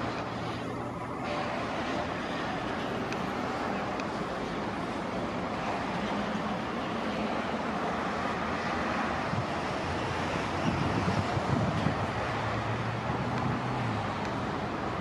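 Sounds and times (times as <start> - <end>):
diesel locomotive engine rumble: 0.0 - 15.0
rail and train noise: 0.0 - 15.0.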